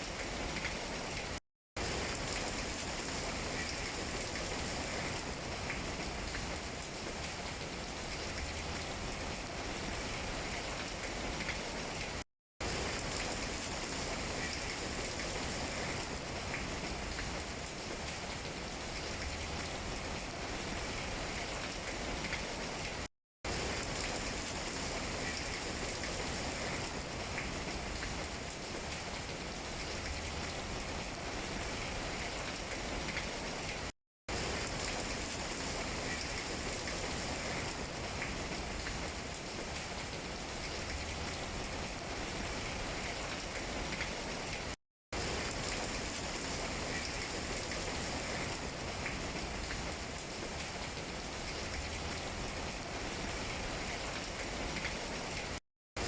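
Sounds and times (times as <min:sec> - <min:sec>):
rain falling on leaves: 0:00.0 - 0:55.6.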